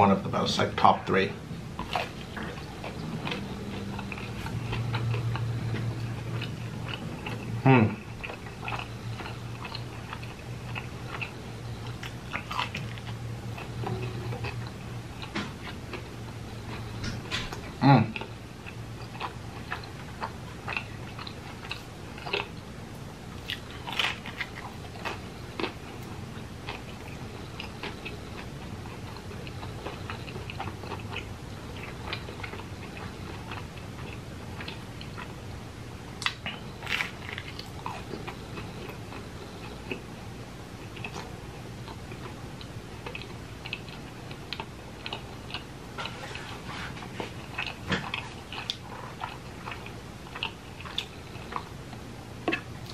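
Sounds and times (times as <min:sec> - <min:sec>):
man chewing and biting: 0:01.8 - 0:35.5, 0:36.1 - 0:40.1, 0:40.7 - 0:52.9.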